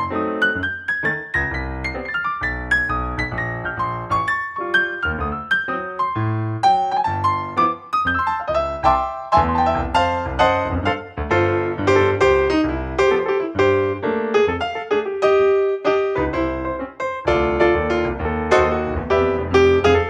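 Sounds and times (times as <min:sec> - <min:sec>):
piano melody over low bass: 0:00.0 - 0:20.0.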